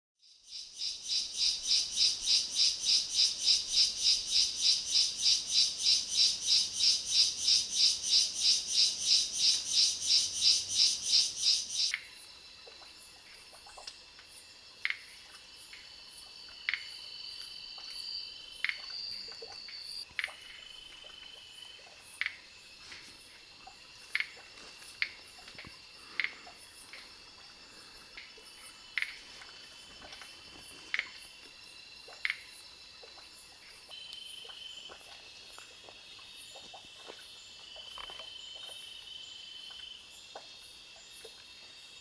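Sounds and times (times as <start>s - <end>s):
high insect trills: 0.2s - 42.0s
pulsing insect call: 0.2s - 42.0s.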